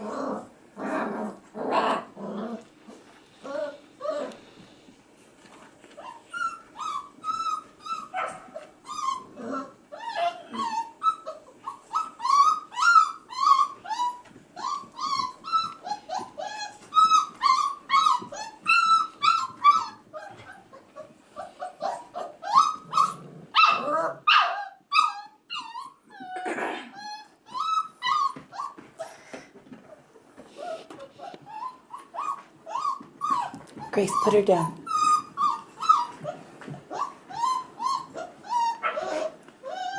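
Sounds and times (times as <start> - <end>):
puppies crying and whining: 0.0 - 39.9.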